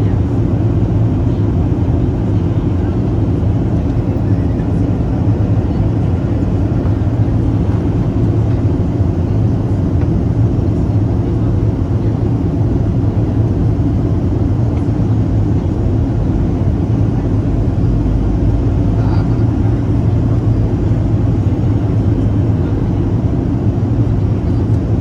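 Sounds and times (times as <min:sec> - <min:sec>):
jet engines droning: 0:00.0 - 0:25.0.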